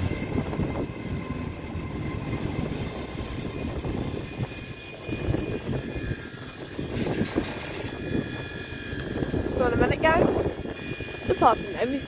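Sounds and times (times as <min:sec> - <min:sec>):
train rumbling: 0:00.0 - 0:12.0
wind buffeting microphone: 0:00.0 - 0:12.0.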